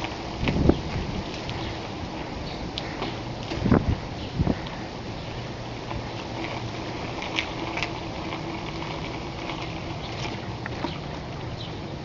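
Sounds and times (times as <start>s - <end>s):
bicycle rolling on pavement: 0.0s - 12.0s.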